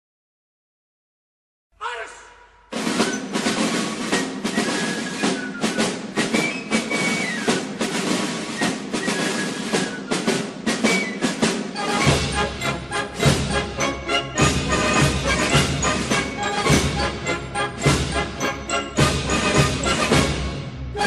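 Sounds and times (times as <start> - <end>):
music with quick drum strikes: 2.7 - 20.7.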